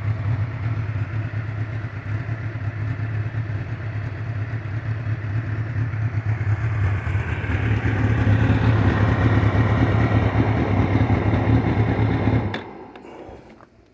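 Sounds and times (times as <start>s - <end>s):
engine running through exhaust: 0.0s - 13.6s.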